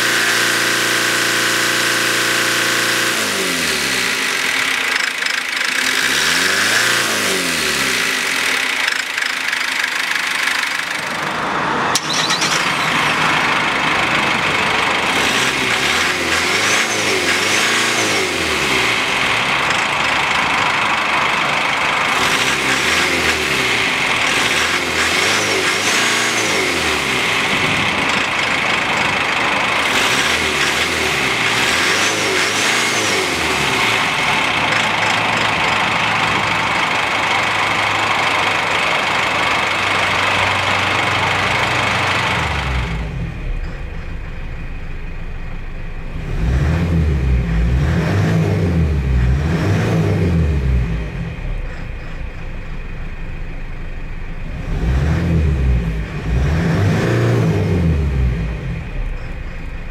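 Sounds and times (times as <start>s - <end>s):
diesel engine idling: 3.2s - 59.9s.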